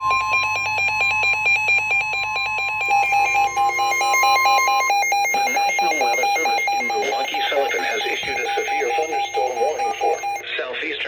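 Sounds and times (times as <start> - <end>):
rapid pulsing electronic beeps: 0.0 - 10.4
steady high alarm tone: 0.0 - 10.4.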